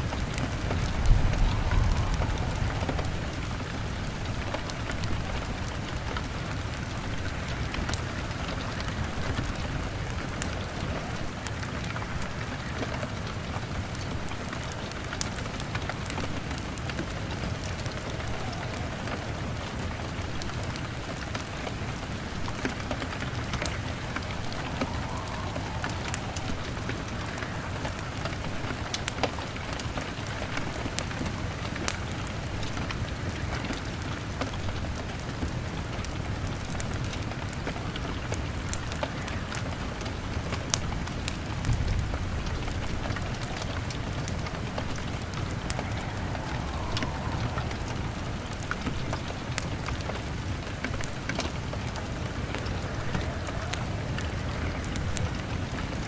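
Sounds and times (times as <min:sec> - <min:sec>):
heavy rain on a window: 0:00.0 - 0:56.0
log fire crackling: 0:00.0 - 0:56.0.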